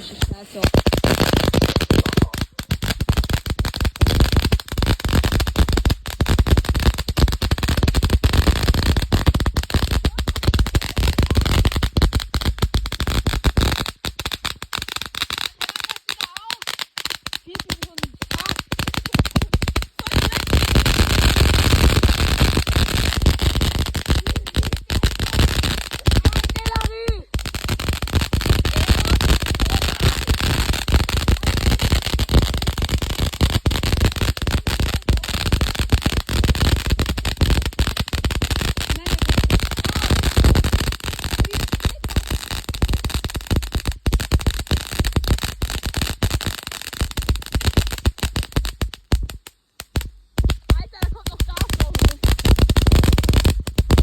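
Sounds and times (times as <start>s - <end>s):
firework fountain crackling pops: 0.0s - 54.0s.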